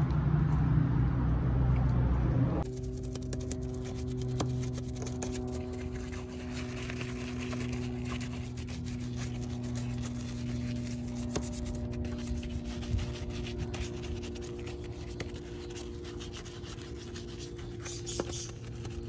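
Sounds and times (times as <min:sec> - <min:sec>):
steady low hum: 0:00.0 - 0:19.0
brush scrubbing a wheel: 0:02.6 - 0:19.0.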